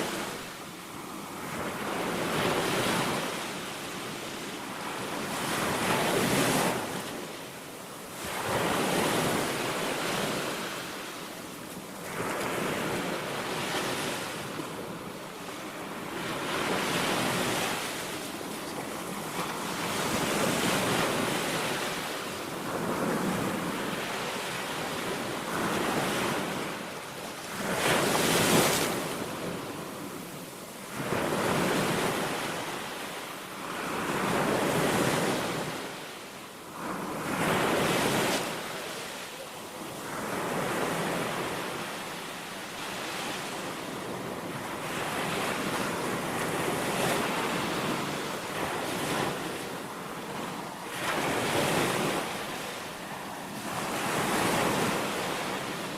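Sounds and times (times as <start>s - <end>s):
sea waves breaking on beach: 0.0s - 55.9s.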